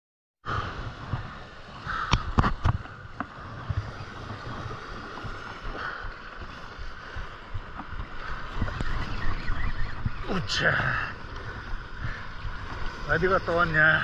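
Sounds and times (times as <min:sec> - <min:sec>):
surf washing against rocks: 0:00.5 - 0:14.0.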